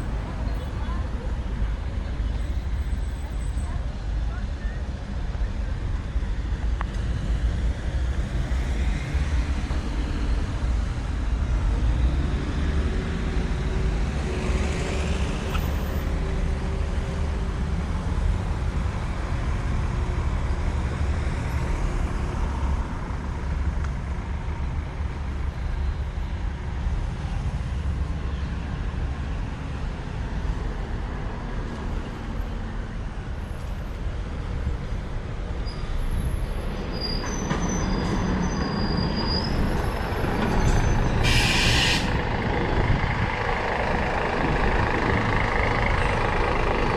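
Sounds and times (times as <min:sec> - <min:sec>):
low traffic rumble: 0:00.0 - 0:46.9
vehicles passing: 0:00.0 - 0:46.9.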